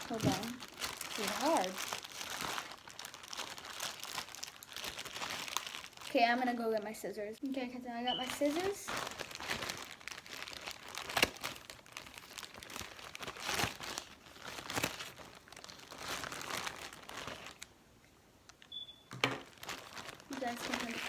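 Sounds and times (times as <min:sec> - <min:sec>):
package wrapping crinkling: 0:00.0 - 0:06.2, 0:08.2 - 0:17.7, 0:18.5 - 0:21.0.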